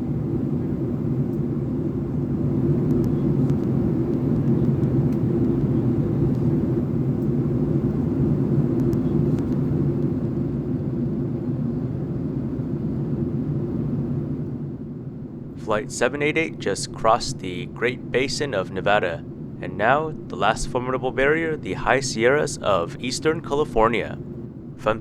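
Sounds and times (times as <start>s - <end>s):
airplane cabin drone: 0.0s - 25.0s.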